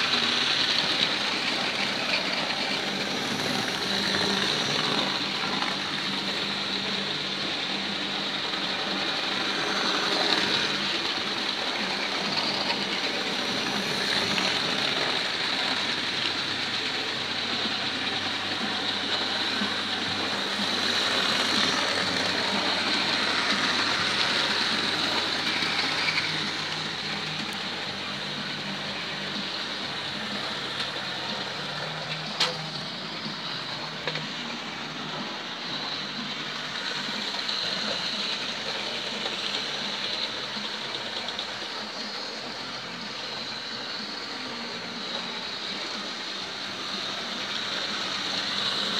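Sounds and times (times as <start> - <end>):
model train motor whirring: 0.0 - 48.9
wheels rolling on rails: 0.0 - 48.9.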